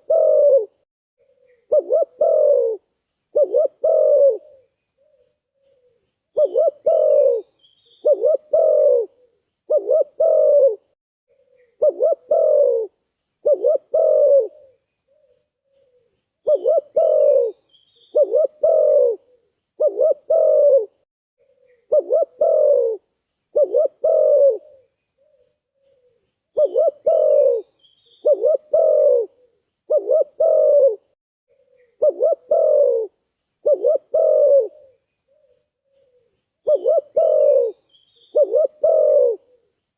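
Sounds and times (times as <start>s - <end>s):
faint high bird chirps: 0.0s - 10.7s, 11.3s - 20.7s, 21.4s - 39.8s
dove cooing: 0.0s - 39.8s.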